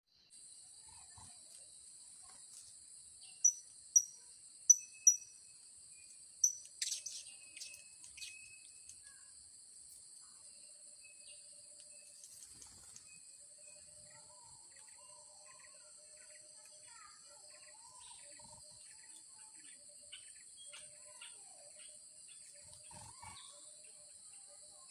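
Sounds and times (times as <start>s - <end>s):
high insect drone: 0.3s - 24.9s.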